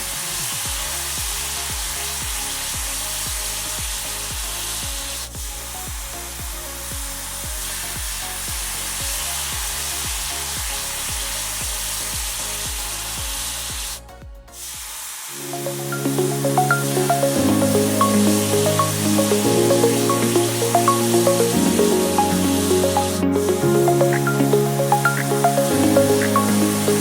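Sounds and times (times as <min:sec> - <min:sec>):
background music with steady beat: 0:00.0 - 0:27.0.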